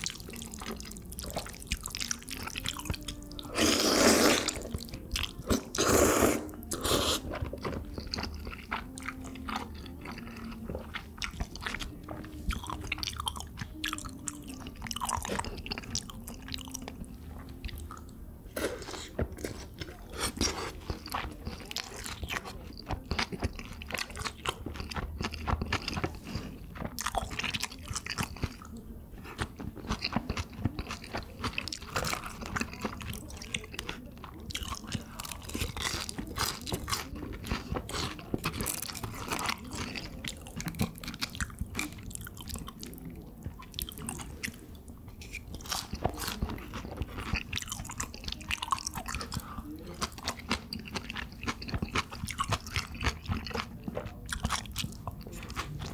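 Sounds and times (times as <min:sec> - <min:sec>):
person chewing with crunchy bites: 0:00.0 - 0:55.9.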